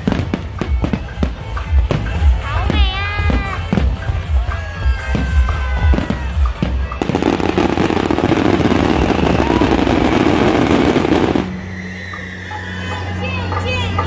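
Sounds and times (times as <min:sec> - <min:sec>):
fireworks bangs and crackle: 0:00.0 - 0:11.6
background music: 0:00.0 - 0:14.0.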